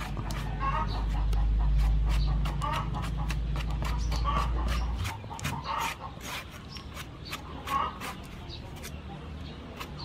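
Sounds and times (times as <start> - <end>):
knife scraping fruit flesh: 0.0 - 10.0.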